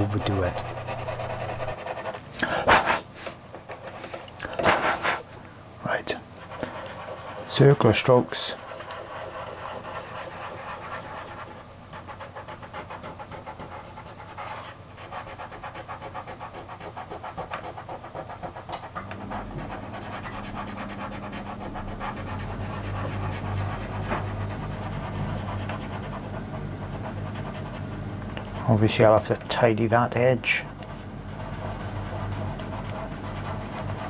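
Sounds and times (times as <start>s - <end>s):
pastel scratching on paper: 0.0s - 3.1s, 3.8s - 5.2s, 6.4s - 28.0s, 30.6s - 34.0s
steady low hum: 0.0s - 34.0s.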